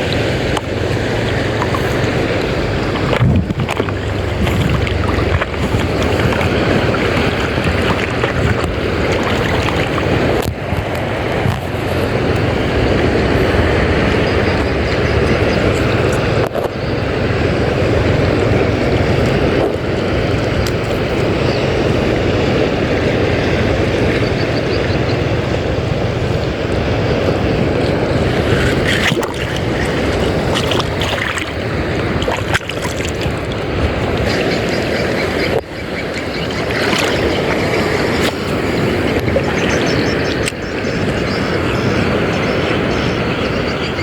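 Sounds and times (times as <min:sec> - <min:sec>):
boat engine drone: 0:00.0 - 0:44.0
water rushing past: 0:00.0 - 0:44.0
wind on microphone: 0:00.0 - 0:44.0.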